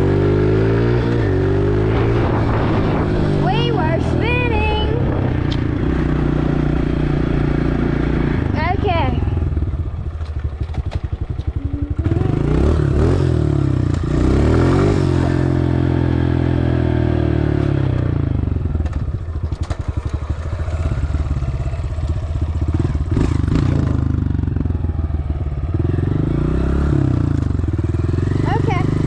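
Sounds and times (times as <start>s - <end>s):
dirt bike engine revving: 0.0s - 18.4s, 19.5s - 24.7s, 25.6s - 29.0s.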